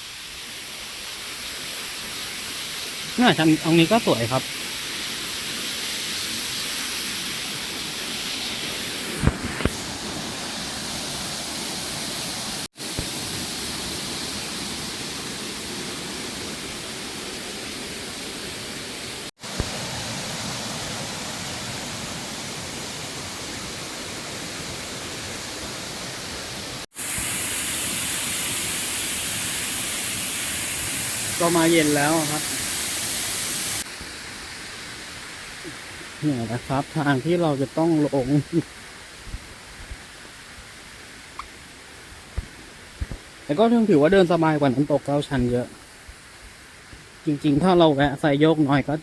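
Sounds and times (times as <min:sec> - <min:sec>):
waterfall rushing: 0:01.4 - 0:49.0.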